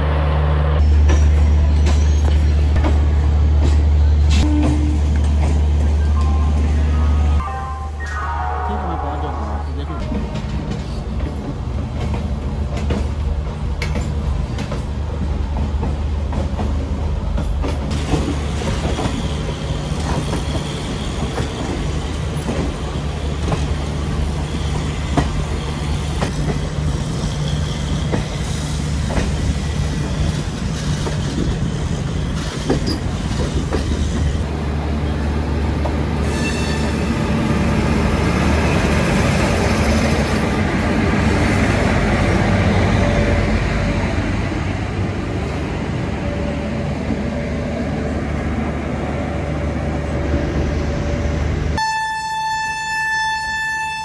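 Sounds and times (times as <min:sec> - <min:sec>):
train coach rumbling: 0:00.0 - 0:53.9.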